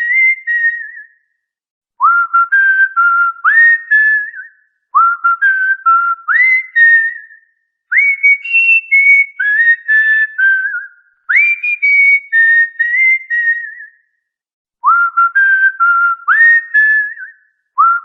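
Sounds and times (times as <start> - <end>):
cockatiel whistling a tune: 2.0 - 13.9, 14.8 - 18.0.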